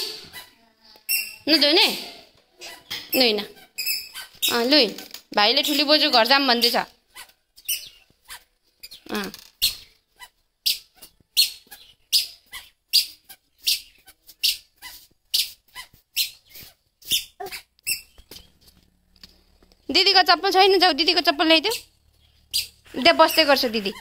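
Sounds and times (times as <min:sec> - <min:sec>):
squeaky shoes squeaking: 0:00.0 - 0:18.9, 0:21.6 - 0:24.0.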